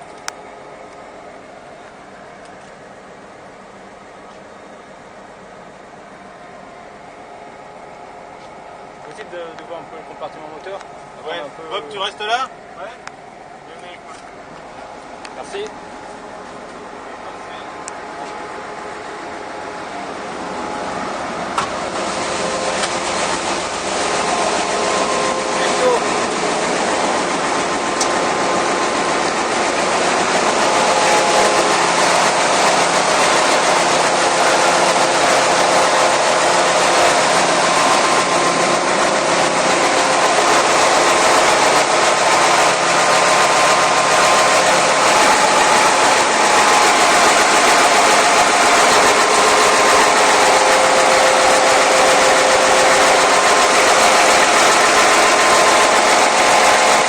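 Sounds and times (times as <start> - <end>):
locomotive diesel engine running: 0.0 - 57.0.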